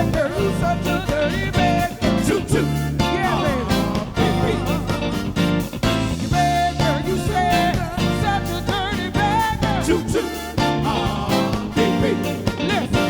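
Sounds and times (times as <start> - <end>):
live soul band playing: 0.0 - 13.0
person singing with vibrato: 0.0 - 13.0.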